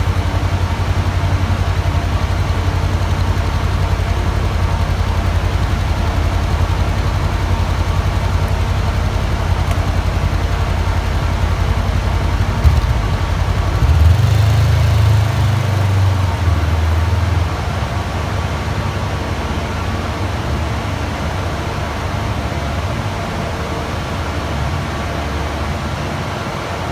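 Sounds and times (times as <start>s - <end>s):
motorcycle engine idling and revving: 0.0s - 24.8s.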